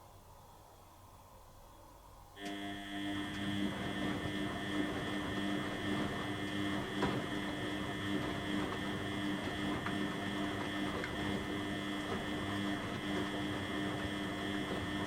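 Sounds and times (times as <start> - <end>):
washing machine motor hum: 2.3 - 15.0.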